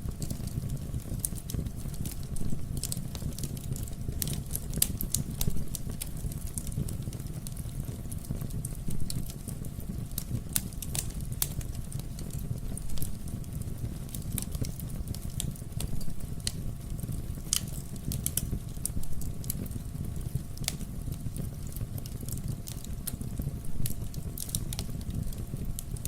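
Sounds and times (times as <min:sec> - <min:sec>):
fire crackling and popping: 0:00.0 - 0:26.0
low rumble of flames: 0:00.0 - 0:26.0.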